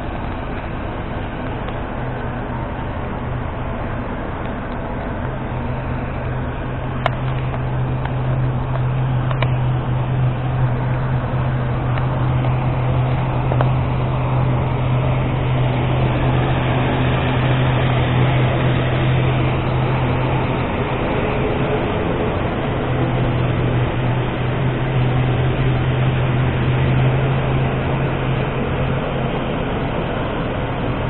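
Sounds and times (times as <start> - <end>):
aircraft and machinery drone: 0.0 - 31.0.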